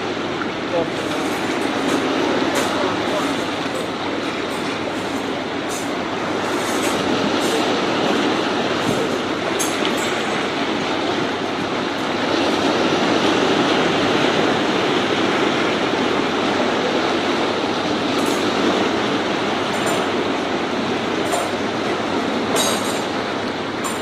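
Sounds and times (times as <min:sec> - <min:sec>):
sea waves washing over rocks: 0:00.0 - 0:24.0.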